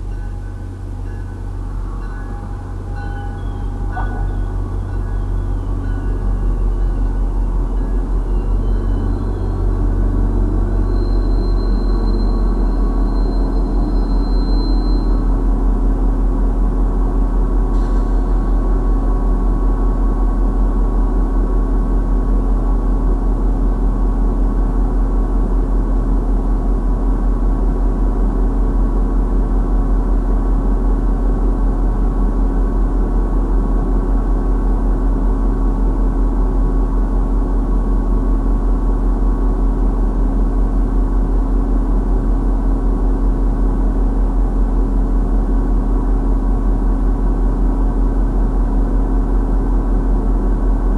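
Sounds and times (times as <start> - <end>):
engine idling drone: 0.0 - 50.9.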